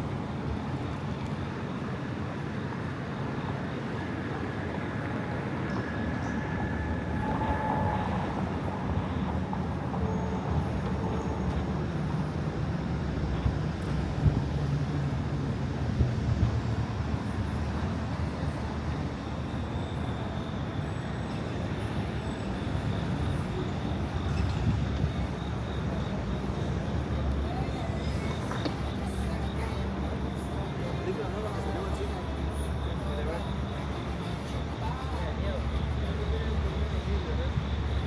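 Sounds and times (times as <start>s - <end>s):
low rumble of traffic: 0.0s - 38.0s.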